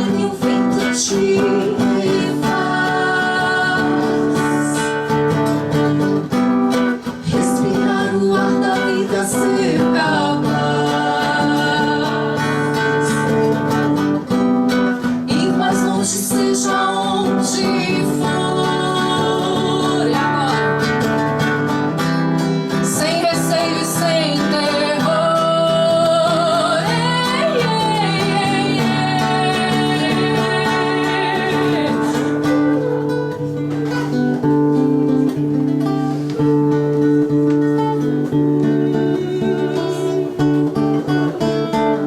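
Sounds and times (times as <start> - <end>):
strummed acoustic guitar: 0.0 - 42.0.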